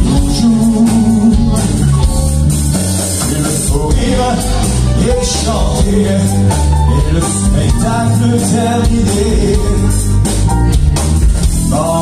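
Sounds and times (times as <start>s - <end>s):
person singing: 0.0s - 2.4s, 3.2s - 10.1s, 11.6s - 12.0s
rock band playing: 0.0s - 12.0s.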